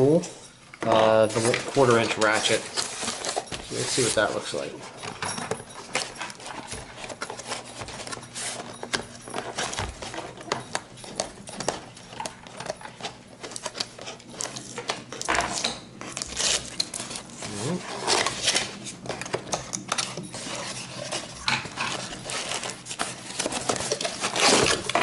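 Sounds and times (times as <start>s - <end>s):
packaging rustling: 0.9s - 25.0s.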